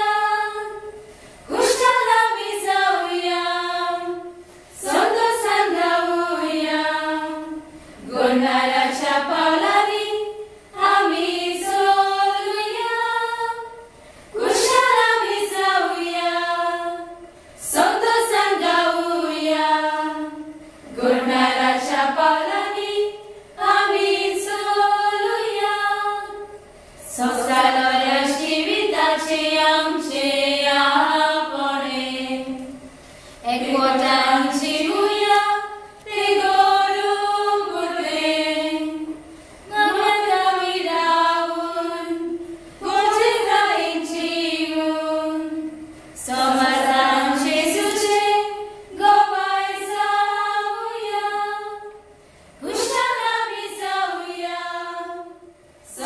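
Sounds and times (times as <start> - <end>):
women singing unaccompanied: 0.0 - 56.0.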